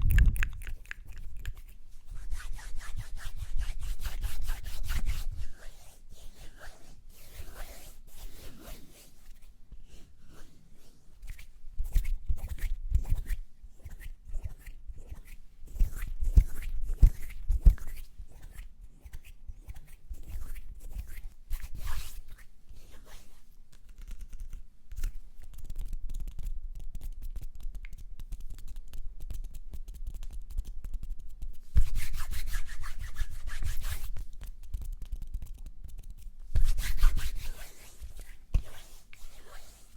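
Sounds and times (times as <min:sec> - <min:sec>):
hands rubbing: 0:00.2 - 0:25.6, 0:31.6 - 0:34.8, 0:36.3 - 0:39.9.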